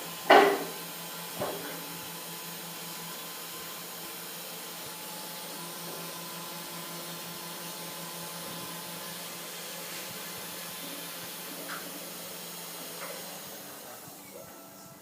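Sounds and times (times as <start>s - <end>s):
router spindle motor whirring: 0.0s - 15.0s.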